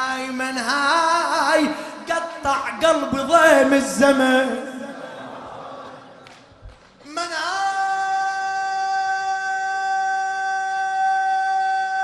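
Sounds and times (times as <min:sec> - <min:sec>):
man chanting a lament: 0:00.0 - 0:05.0, 0:07.0 - 0:12.0.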